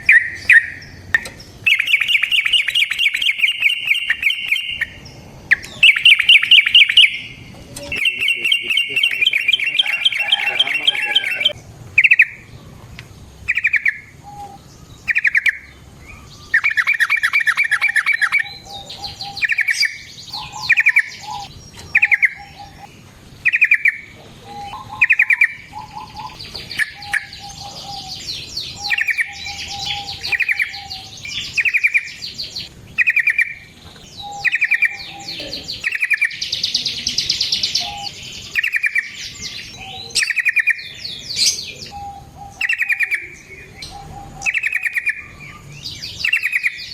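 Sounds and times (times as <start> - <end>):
bird harsh chattering: 0.0 - 12.5, 13.4 - 46.9
bird singing bubbly phrases: 0.0 - 46.9.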